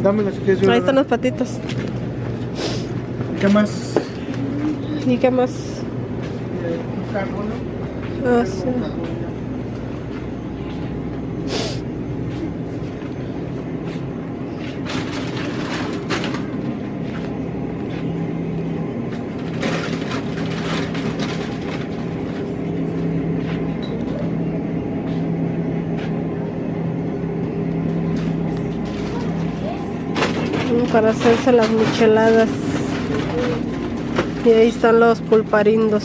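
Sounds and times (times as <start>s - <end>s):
refrigerator and ventilation hum: 0.0s - 36.0s
rustles and clicks of goods: 0.0s - 36.0s.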